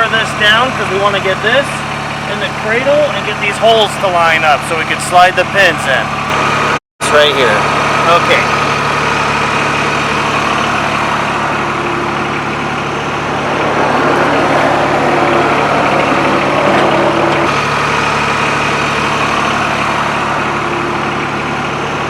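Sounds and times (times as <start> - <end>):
hydraulic whine: 0.0 - 22.0
tractor diesel engine running: 0.0 - 22.0.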